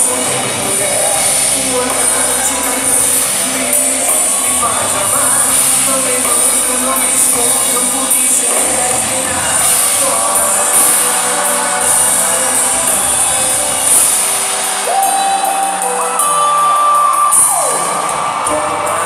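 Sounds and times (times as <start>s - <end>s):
crowd shouting and cheering: 0.0s - 19.0s
live pop-rock band playing: 0.0s - 19.0s
person singing: 0.0s - 19.0s.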